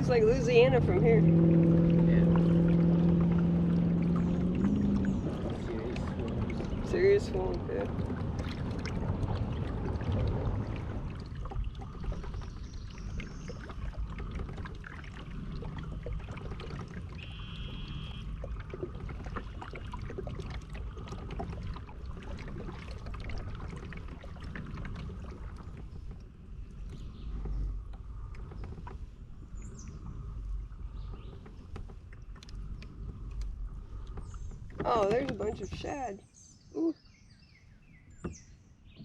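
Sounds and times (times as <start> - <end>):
low steady rumble: 0.0 - 36.6
paddle splashing water: 0.0 - 36.6.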